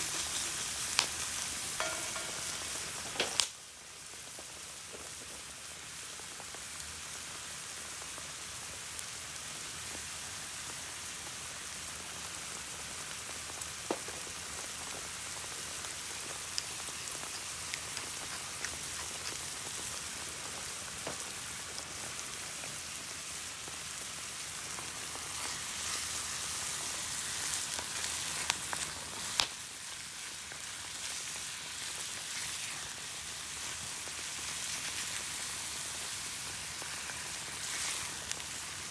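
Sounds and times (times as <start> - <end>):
fire pops and crackles: 0.0 - 5.4, 12.2 - 38.9
food sizzling in a pan: 0.0 - 38.9.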